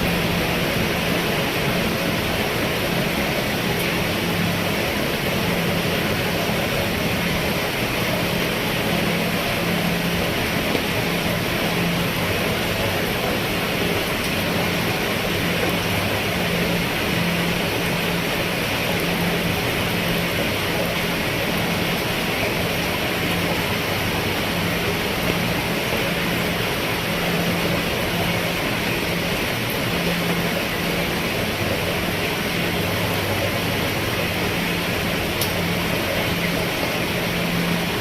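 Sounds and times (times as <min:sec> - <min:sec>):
low hum: 0:00.0 - 0:38.0
rain falling on a roof: 0:00.0 - 0:38.0.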